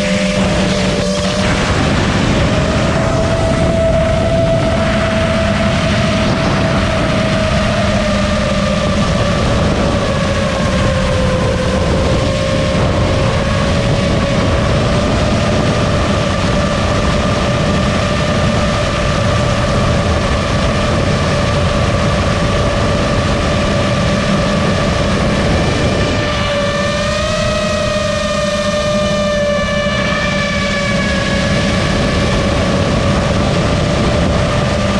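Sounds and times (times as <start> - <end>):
drone motors whining: 0.0 - 34.9
rushing wind noise: 0.0 - 34.9.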